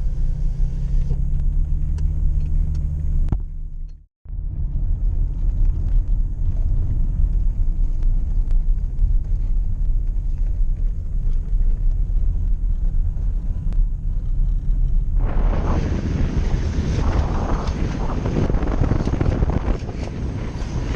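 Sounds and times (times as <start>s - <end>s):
car driving rumble: 0.0s - 20.9s
wind noise on microphone: 0.0s - 20.9s.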